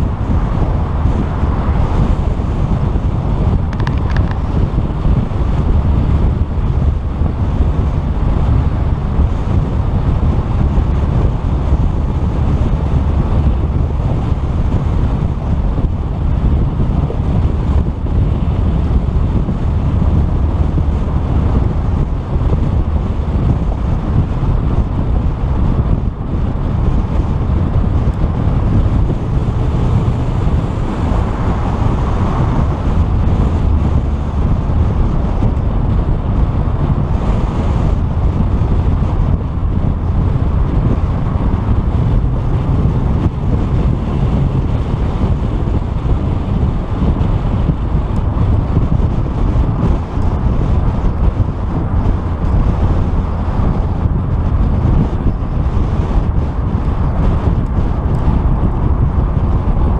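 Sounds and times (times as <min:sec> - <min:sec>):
car road and engine noise: 0:00.0 - 0:59.9
wind buffeting microphone: 0:00.0 - 0:59.9.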